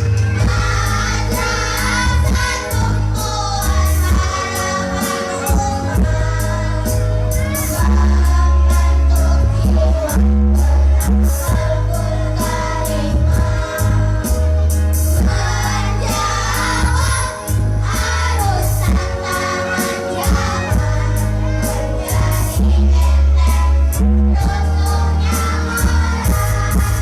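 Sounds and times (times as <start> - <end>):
children's choir singing: 0.0 - 27.0
music with heavy bass and beat: 0.0 - 27.0.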